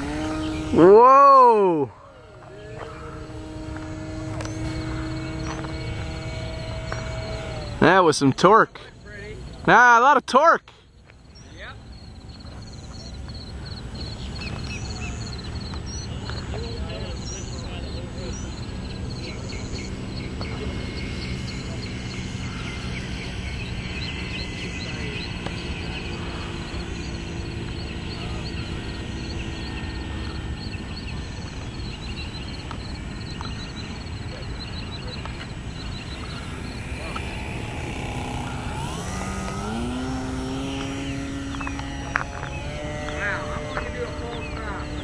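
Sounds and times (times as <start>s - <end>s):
model plane motor whining: 0.0s - 8.1s, 11.5s - 45.0s
chirping: 0.0s - 9.8s, 10.8s - 45.0s.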